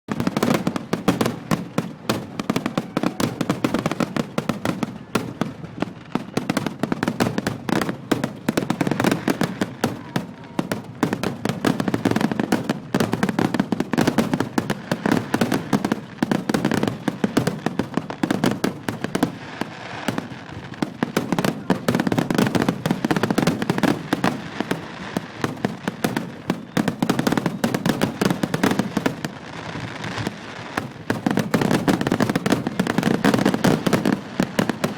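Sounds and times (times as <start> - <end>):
fireworks bursting and crackling: 0.1 - 34.9.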